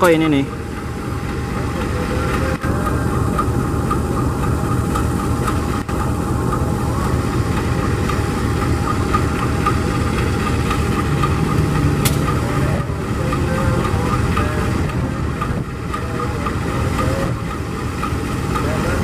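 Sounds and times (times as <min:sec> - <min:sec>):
locomotive engine idling: 0:00.0 - 0:19.0.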